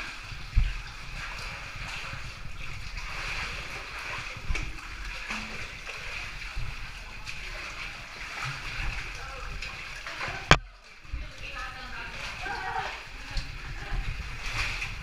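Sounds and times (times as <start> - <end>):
stream water running and splashing: 0.0 - 15.0.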